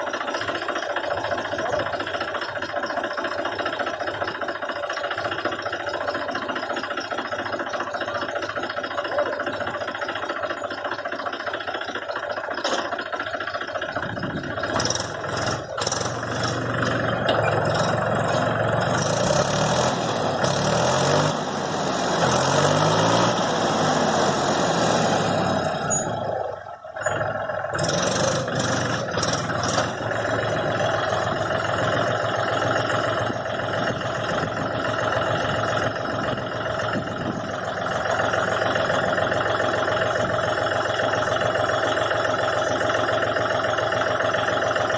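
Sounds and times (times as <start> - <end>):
tractor diesel engine revving: 0.0 - 44.9.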